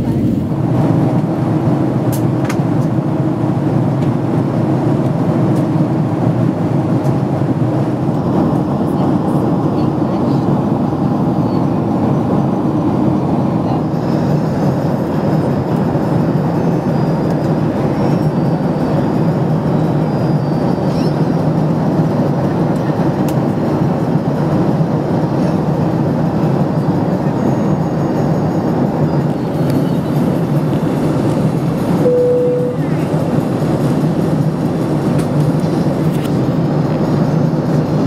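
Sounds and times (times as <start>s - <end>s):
airliner cabin roar: 0.0s - 38.0s.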